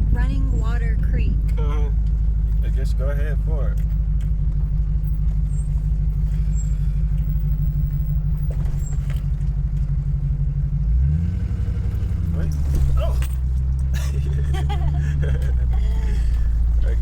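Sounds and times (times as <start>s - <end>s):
car engine running from inside: 0.0s - 17.0s.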